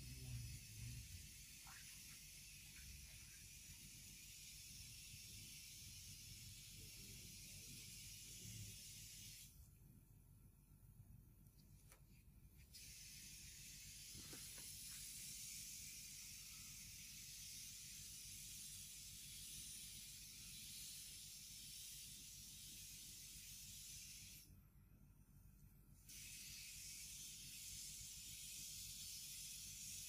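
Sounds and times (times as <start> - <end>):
recording hiss: 0.0 - 9.7, 11.6 - 24.6, 25.9 - 30.0.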